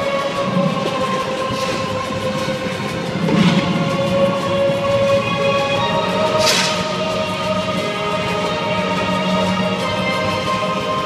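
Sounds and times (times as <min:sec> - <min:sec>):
pulsing low rumble: 0:00.0 - 0:11.0.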